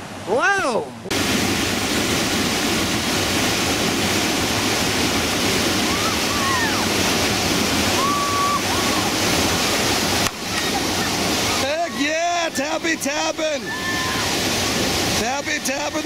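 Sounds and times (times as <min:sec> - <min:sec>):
roar of whitewater: 0:00.0 - 0:16.0.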